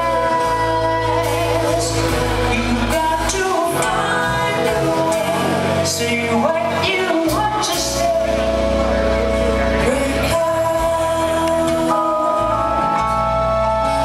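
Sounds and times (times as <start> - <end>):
women singing: 0.0 - 8.5, 9.8 - 13.0
bass line: 0.0 - 14.0.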